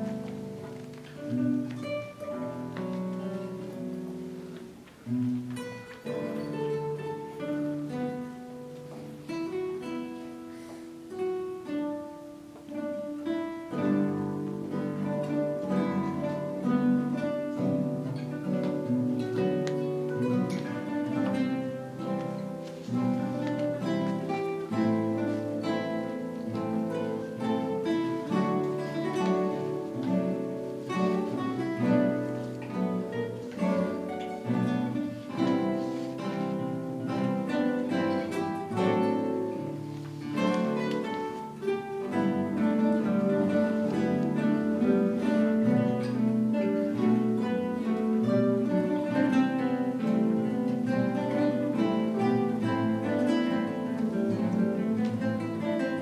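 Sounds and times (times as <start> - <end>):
acoustic guitars playing: 0.0 - 56.0.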